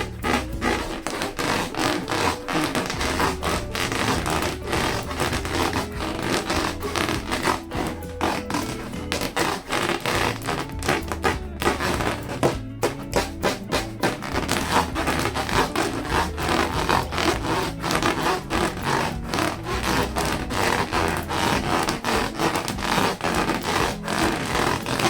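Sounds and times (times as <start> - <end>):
balloons rubbed and squeaking: 0.0 - 25.0
low steady music: 0.0 - 25.0.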